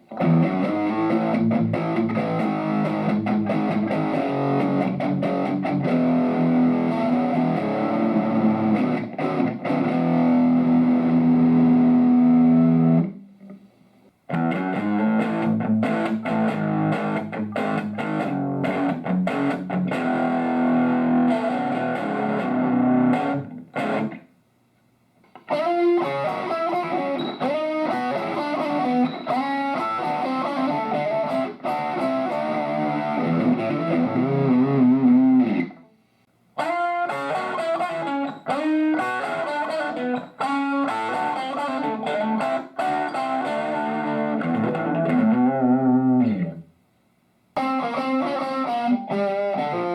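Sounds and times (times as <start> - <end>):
electric guitar notes and chords: 0.0 - 13.6, 14.3 - 24.3, 25.3 - 35.9, 36.6 - 46.7, 47.6 - 49.9.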